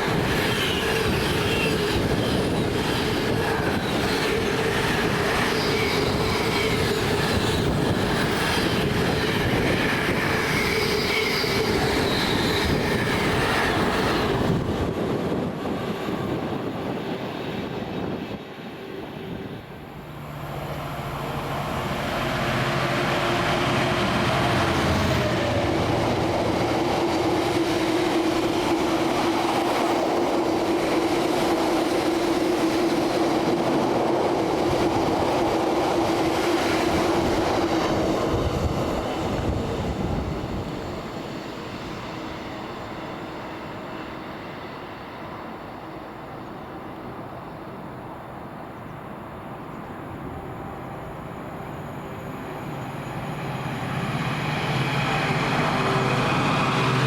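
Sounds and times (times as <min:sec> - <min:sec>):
steady train whine: 0:00.0 - 0:57.0
train wheels rolling on rails: 0:00.0 - 0:57.0.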